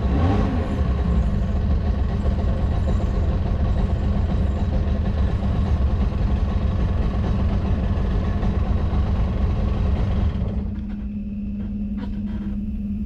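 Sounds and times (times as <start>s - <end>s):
constant hum: 0.0s - 13.0s
engine rumbling: 0.0s - 13.0s.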